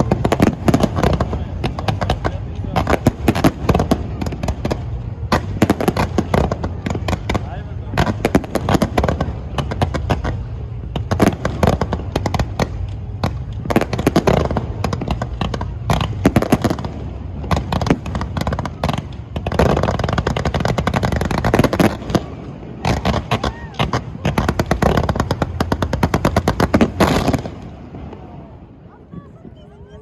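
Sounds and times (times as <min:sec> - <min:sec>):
fireworks cracks and bangs: 0:00.0 - 0:29.4.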